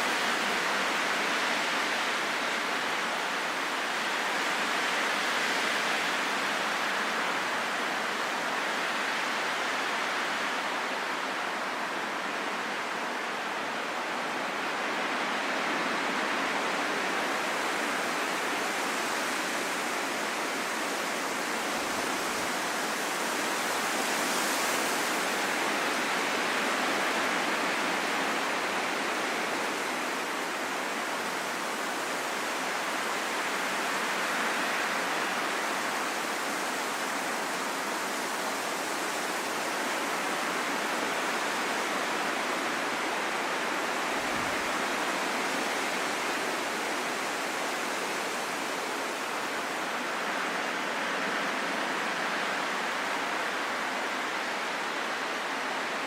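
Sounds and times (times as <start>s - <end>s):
rushing wind: 0.0s - 56.0s.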